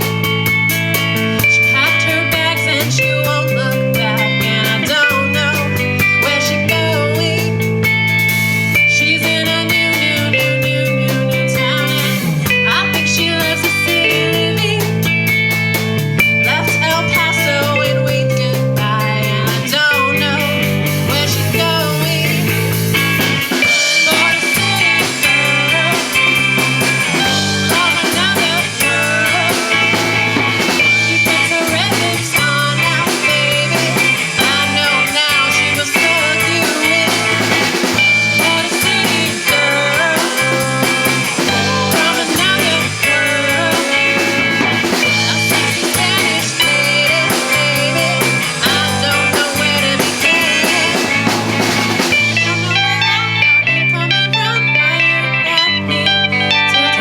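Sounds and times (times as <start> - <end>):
drum kit: 0.0 - 53.8
bass line: 0.0 - 57.0
electric guitar: 0.0 - 57.0.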